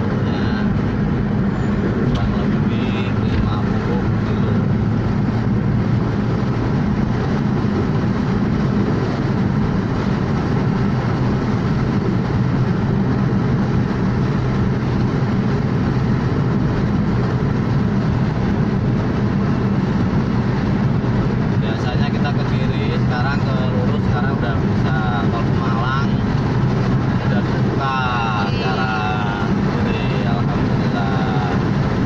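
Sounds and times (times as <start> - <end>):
car cabin road drone: 0.0 - 32.0.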